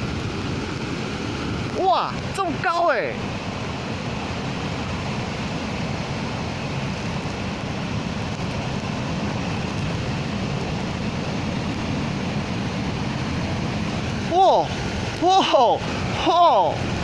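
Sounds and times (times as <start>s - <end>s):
wind on microphone: 0.0s - 2.6s, 3.2s - 17.0s
sea waves breaking: 0.0s - 17.0s.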